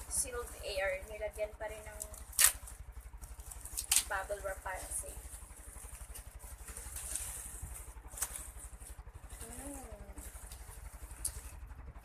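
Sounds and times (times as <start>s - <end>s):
plastic packaging crinkling: 0.0s - 11.6s
low engine rumble: 0.0s - 12.0s
sharp crackles: 0.1s - 11.5s.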